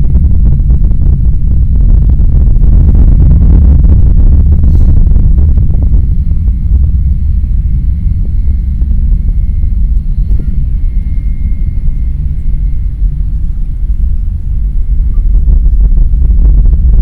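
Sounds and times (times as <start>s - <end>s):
rocket engines deep rumble: 0.0s - 17.0s.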